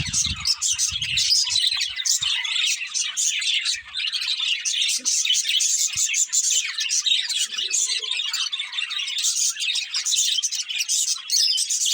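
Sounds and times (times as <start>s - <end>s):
budgerigars chirping: 0.0s - 11.9s.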